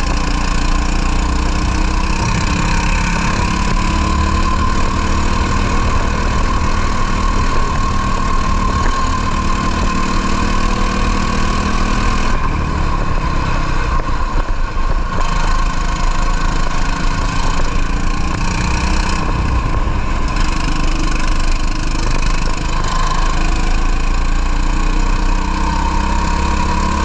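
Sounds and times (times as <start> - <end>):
broad rushing noise: 0.0 - 24.6
kart engine running: 0.0 - 27.0.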